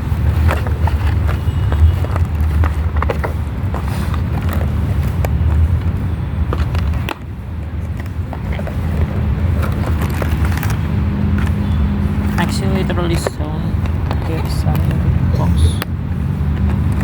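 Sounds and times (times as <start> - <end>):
cardboard and plastic box rustling: 0.0 - 15.1.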